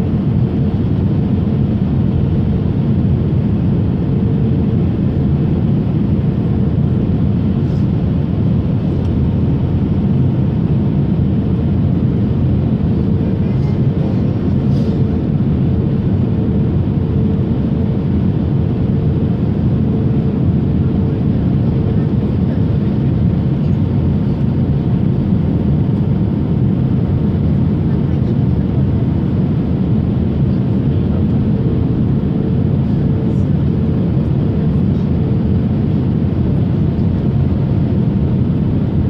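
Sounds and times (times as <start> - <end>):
aircraft cabin engine drone: 0.0 - 39.0.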